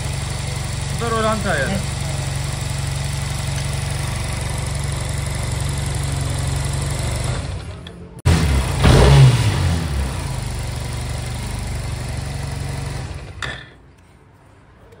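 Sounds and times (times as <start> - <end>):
engine revving: 0.0 - 13.4
scooter engine idling: 0.0 - 13.7.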